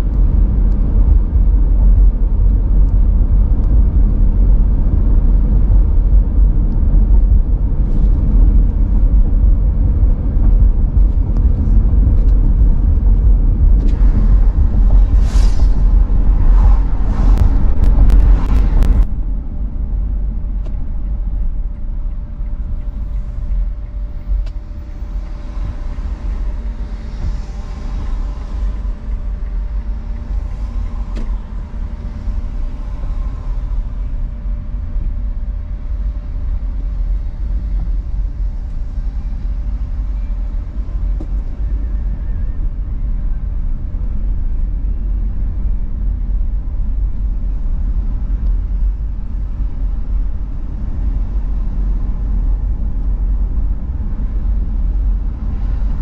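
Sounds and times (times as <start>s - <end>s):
car driving on highway: 0.0s - 56.0s
faint steady hum: 0.0s - 56.0s.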